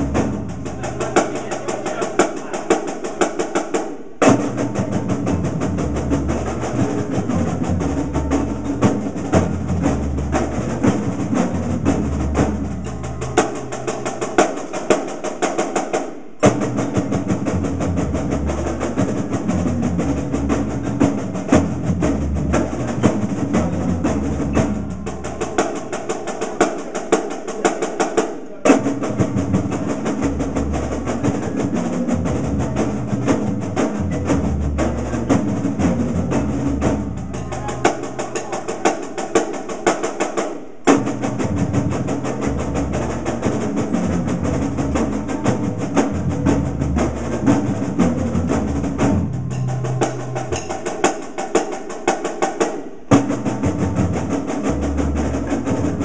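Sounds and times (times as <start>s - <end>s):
marching snare drums: 0.0s - 56.0s.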